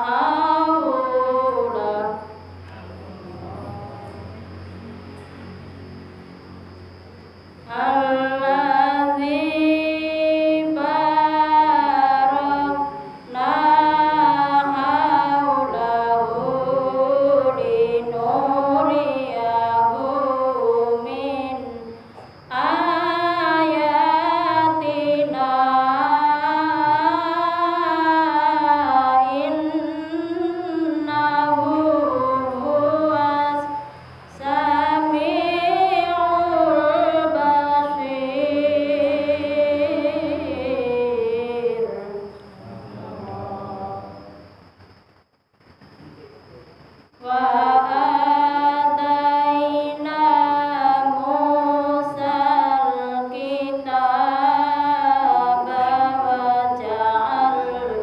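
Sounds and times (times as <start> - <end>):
woman chanting melodically: 0.0 - 5.0, 7.6 - 44.6, 47.2 - 58.0.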